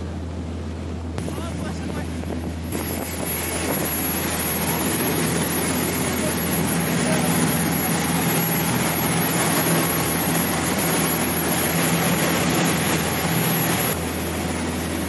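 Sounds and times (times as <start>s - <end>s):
boat engines running: 0.0s - 15.0s
rushing water: 0.0s - 15.0s
wind: 0.0s - 15.0s.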